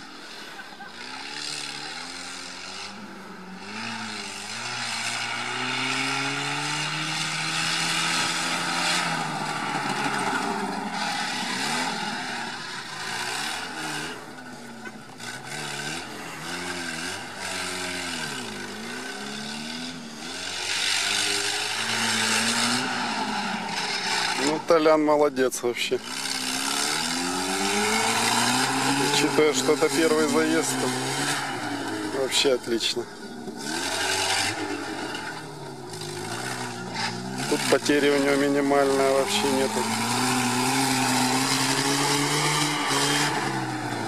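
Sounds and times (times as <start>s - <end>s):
off-road vehicle engine revving: 0.0s - 44.0s.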